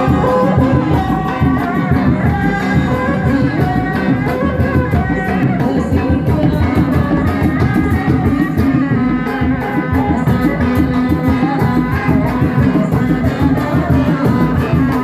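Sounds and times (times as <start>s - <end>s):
held melodic notes: 0.0s - 12.7s
fast dense drumming: 0.0s - 15.0s
person singing: 0.0s - 15.0s.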